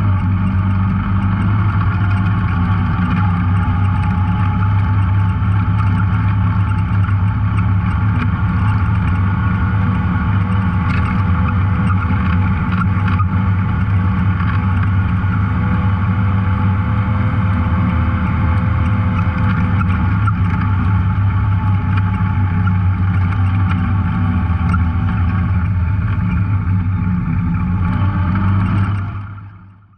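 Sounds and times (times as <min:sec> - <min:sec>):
off-road vehicle engine running: 0:00.0 - 0:29.9.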